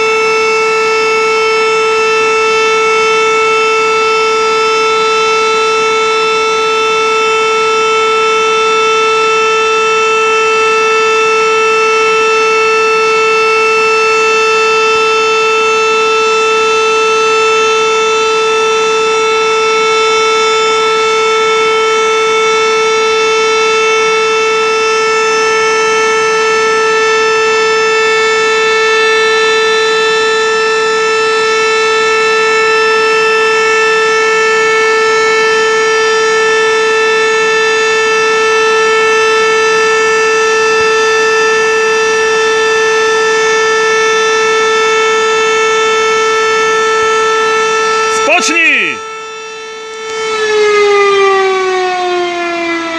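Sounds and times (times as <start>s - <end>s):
siren steady tone: 0.0s - 52.9s.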